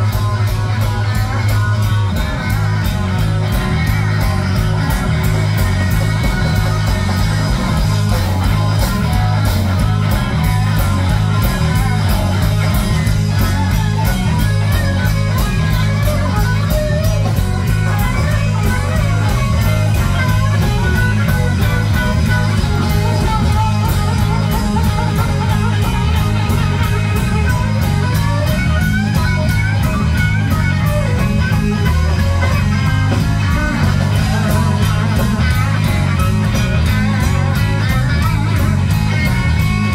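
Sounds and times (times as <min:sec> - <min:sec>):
electric guitar lead lines: 0:00.0 - 0:39.9
live blues rock band: 0:00.0 - 0:39.9.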